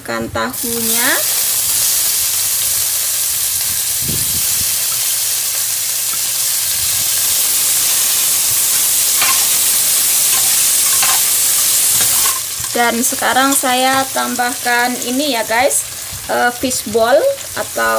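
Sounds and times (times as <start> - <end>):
oil sizzling in a pan: 0.5 - 17.9.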